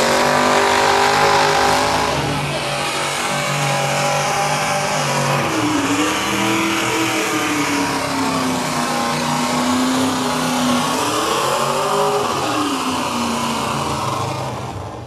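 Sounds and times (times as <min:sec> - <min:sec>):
truck engine revving under load: 0:00.0 - 0:15.0.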